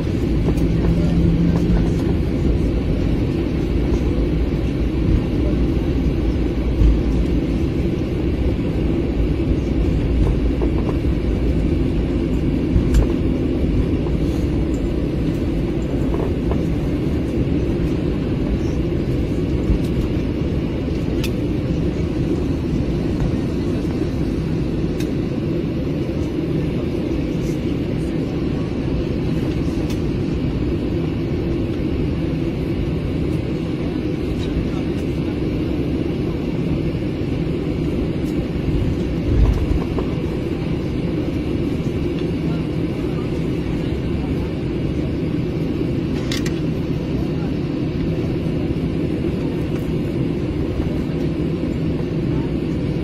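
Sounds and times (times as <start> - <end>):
low rumble of engines and wheels: 0.0 - 53.0.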